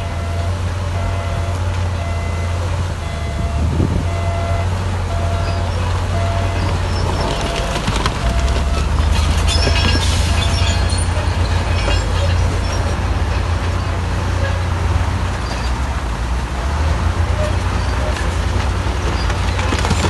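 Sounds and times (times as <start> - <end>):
steel tracks clanking and squealing: 0.0 - 16.0, 16.8 - 20.0
bulldozer diesel engine: 0.0 - 20.0.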